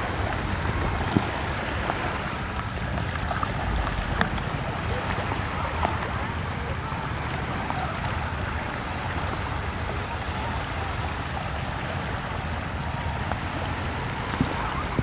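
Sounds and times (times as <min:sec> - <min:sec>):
small waves washing onto beach: 0:00.0 - 0:15.0.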